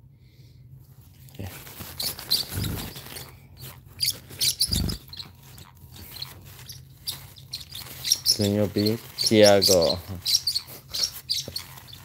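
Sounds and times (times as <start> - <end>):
rustling and scrabbling: 1.0 - 12.0
parrots squeaky chirps: 1.9 - 12.0.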